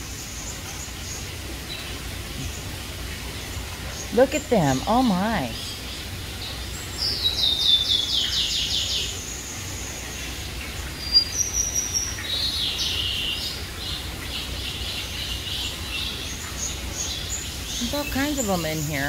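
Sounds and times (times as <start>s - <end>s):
small birds singing and calling: 0.0s - 19.0s.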